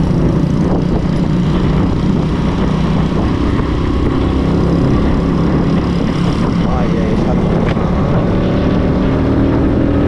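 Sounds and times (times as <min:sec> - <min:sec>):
motorcycle engine running: 0:00.0 - 0:10.0
wind on microphone: 0:00.0 - 0:10.0.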